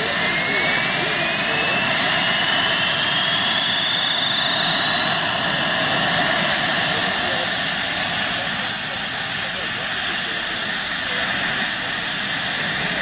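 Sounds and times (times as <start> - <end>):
high turbine whine: 0.0 - 13.0
model turbine engine rushing: 0.0 - 13.0.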